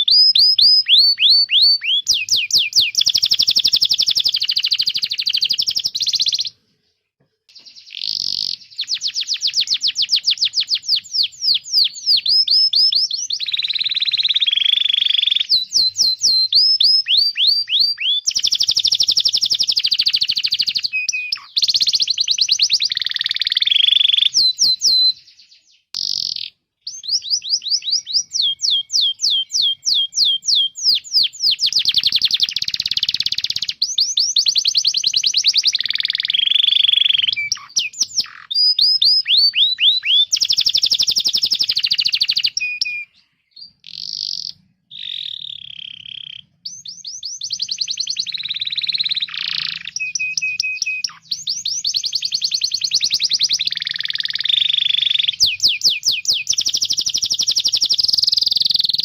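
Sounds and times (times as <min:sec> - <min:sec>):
canary singing: 0:00.0 - 0:06.9, 0:07.5 - 0:59.0.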